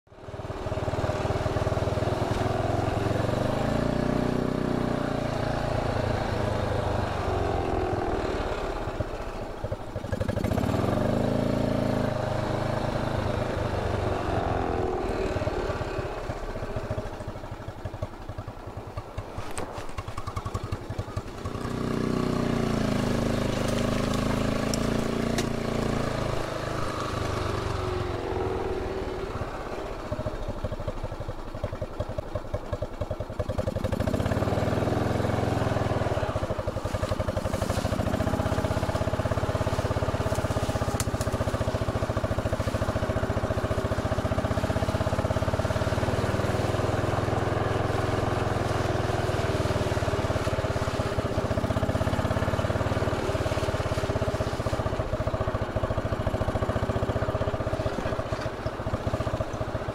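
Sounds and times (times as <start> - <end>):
motorcycle engine revving: 0.1 - 59.9.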